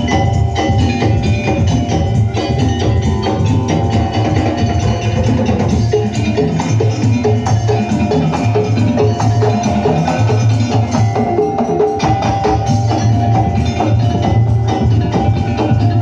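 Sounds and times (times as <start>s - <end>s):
wooden percussion and drums: 0.0s - 16.0s.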